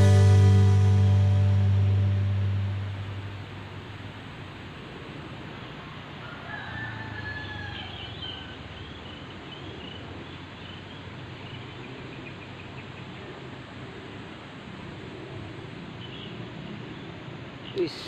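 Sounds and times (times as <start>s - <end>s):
steady outdoor hiss: 0.0s - 18.0s
birds chirping: 1.3s - 18.0s.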